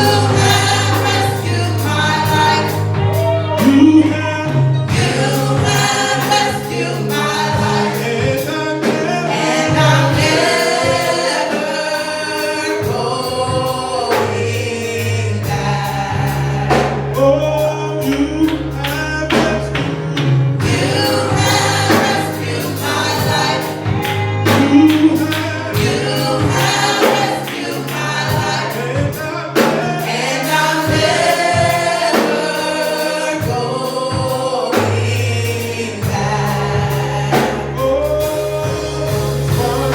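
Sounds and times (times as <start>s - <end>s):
steady drum beat: 0.0s - 17.3s, 18.0s - 39.9s
gospel choir singing: 0.0s - 39.9s
held bass notes: 0.0s - 39.9s.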